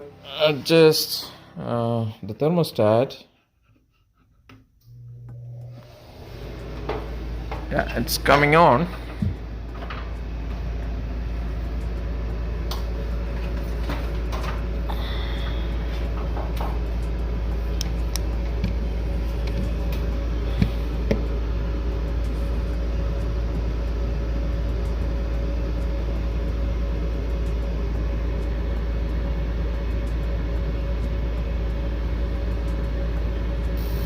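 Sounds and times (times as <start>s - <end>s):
heater blower fan humming: 0.0s - 34.0s.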